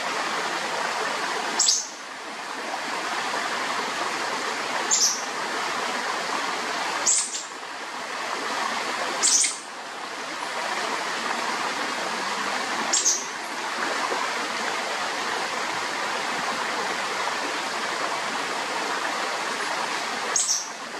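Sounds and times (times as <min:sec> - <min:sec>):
stream water rushing: 0:00.0 - 0:20.9.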